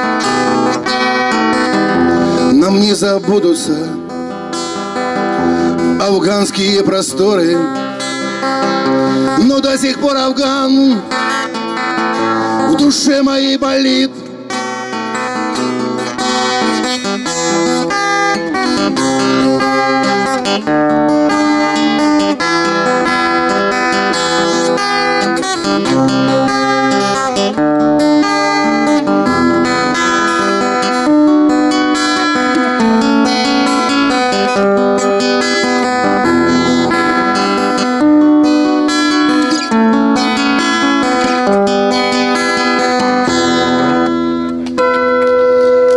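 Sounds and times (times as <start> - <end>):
acoustic guitar: 0.0 - 45.9.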